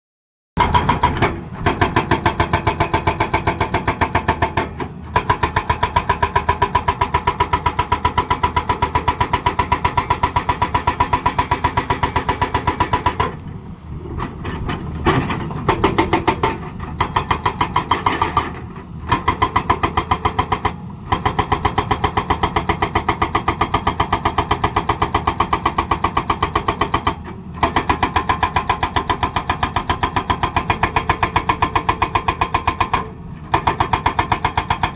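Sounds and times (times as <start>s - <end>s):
hydraulic breaker hammering: 0.6s - 13.4s, 15.2s - 34.9s.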